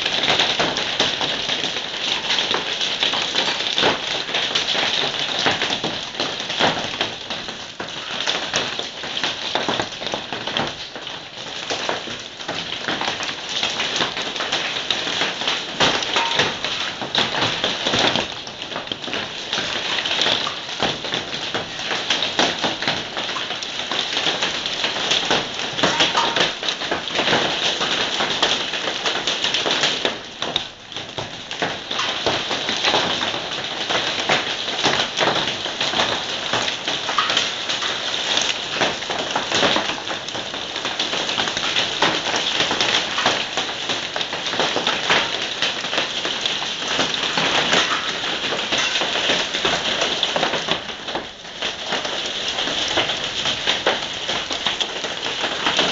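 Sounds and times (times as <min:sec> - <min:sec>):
hail and heavy rain pelting: 0:00.0 - 0:55.9.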